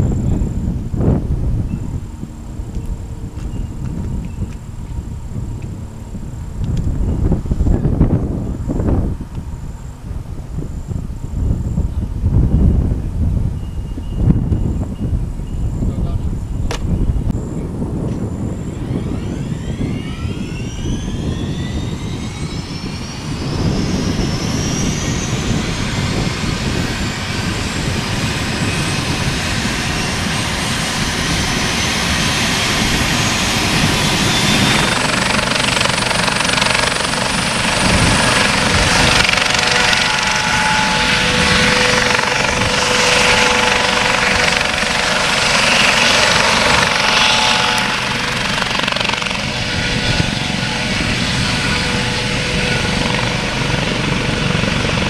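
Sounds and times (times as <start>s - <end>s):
helicopter rotor chop: 0.0s - 13.6s, 14.2s - 55.0s
helicopter turbine whine: 0.0s - 55.0s.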